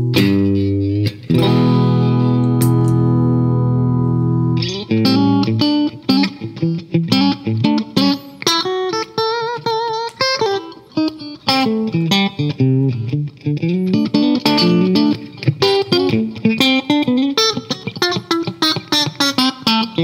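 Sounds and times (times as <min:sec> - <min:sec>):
electric guitar melodic run: 0:00.0 - 0:20.0.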